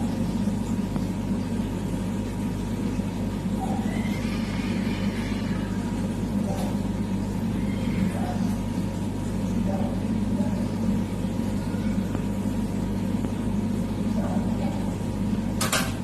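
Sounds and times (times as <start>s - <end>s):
aquarium equipment humming: 0.0s - 16.0s.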